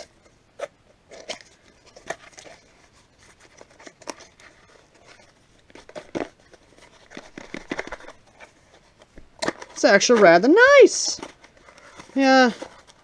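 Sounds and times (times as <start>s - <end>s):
cardboard box handling rustles: 0.6s - 13.0s.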